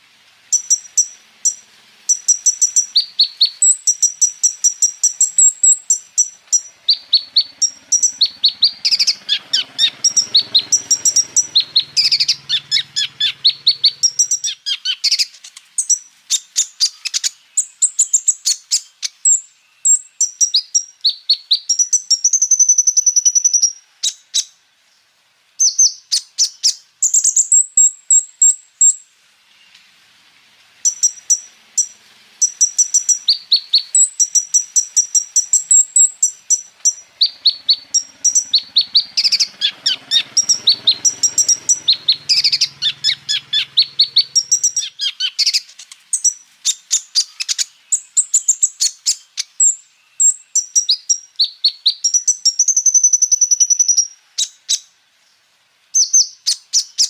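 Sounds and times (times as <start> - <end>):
small bird chirping and trilling: 0.0 - 24.6, 25.6 - 29.8, 30.8 - 55.0, 55.9 - 57.0.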